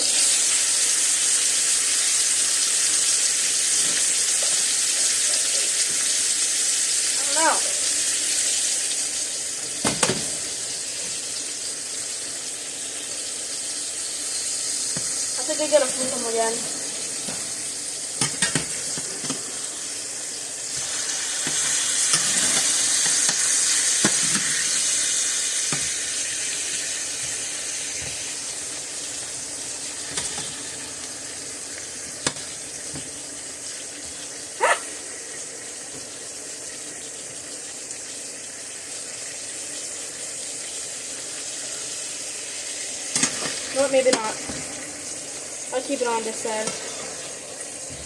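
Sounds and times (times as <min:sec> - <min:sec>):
steaks sizzling in a frying pan: 0:00.0 - 0:48.0.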